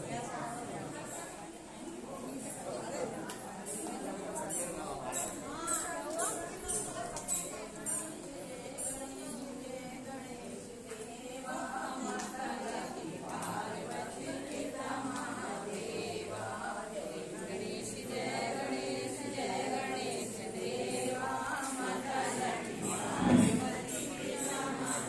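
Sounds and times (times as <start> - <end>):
group singing devotional chant: 0.0 - 25.0.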